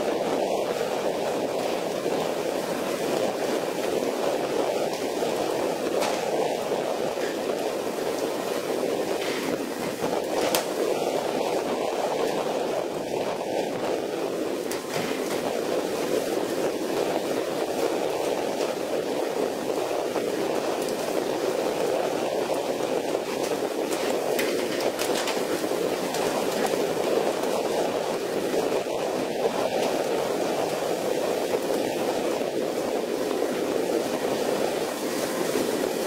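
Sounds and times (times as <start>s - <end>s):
waves and spray: 0.0s - 36.0s
wind: 0.0s - 36.0s.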